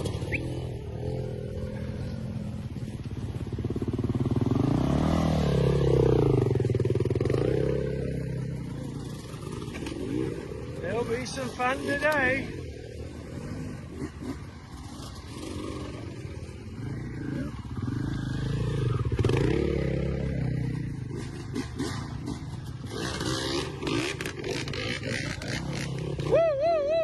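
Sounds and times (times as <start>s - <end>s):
dirt bike engine revving: 0.0s - 26.6s.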